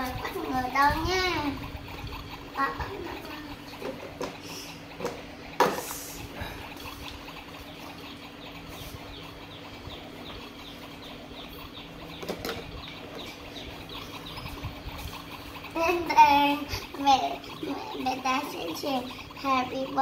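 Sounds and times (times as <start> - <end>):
small motor humming: 0.0 - 20.0.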